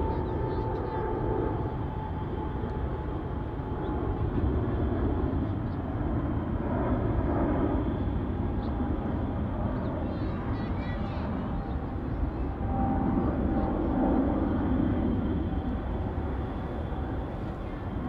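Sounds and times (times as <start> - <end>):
low city rumble: 0.0 - 18.0.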